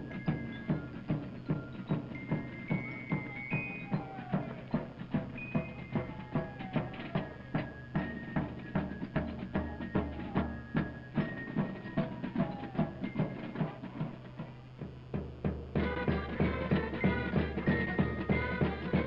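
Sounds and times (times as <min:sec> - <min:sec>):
low steady hum: 0:00.0 - 0:19.0
military march music: 0:00.0 - 0:19.0
steady drum beat: 0:00.0 - 0:19.0.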